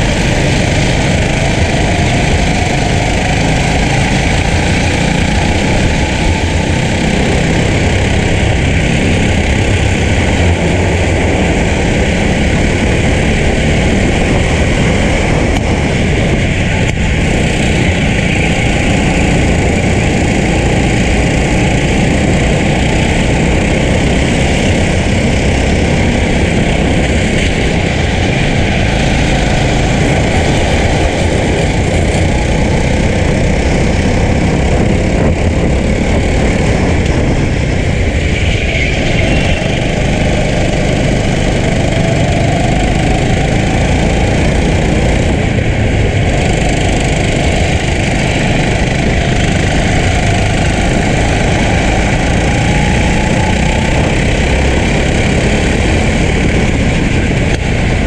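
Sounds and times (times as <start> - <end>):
go-kart engine running hard: 0.0 - 58.0
other karts in traffic: 0.0 - 58.0.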